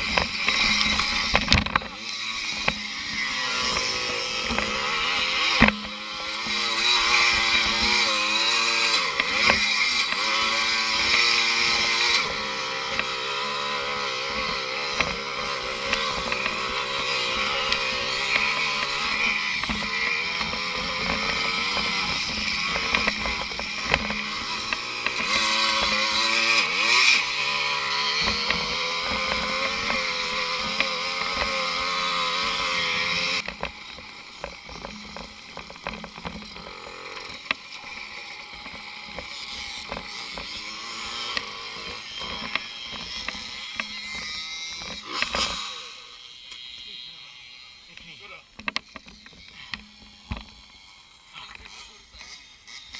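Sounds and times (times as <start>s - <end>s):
moped engine revving: 0.0s - 52.9s.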